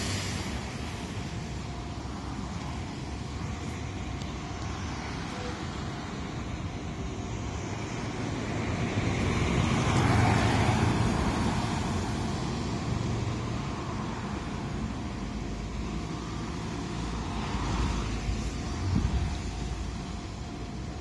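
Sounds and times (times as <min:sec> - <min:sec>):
road traffic: 0:00.0 - 0:21.0.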